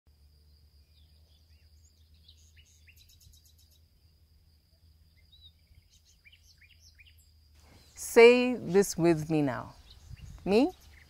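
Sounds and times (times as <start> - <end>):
small birds chirping: 0.2 - 11.0
bird trill: 0.9 - 4.0, 5.0 - 11.0.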